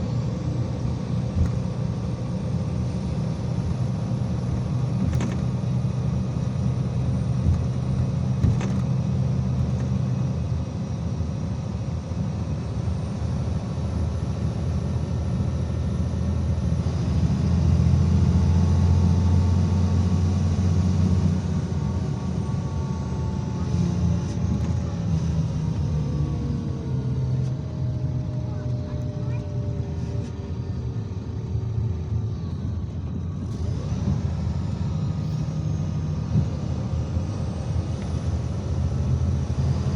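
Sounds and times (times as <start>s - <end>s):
diesel engine hum: 0.0s - 39.9s
road rumble: 0.0s - 39.9s.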